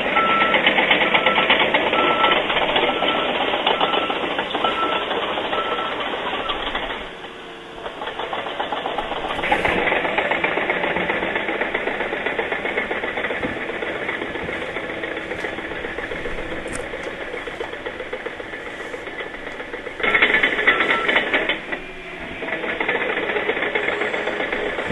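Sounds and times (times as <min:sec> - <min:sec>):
engine running with rapid clatter: 0:00.0 - 0:24.9.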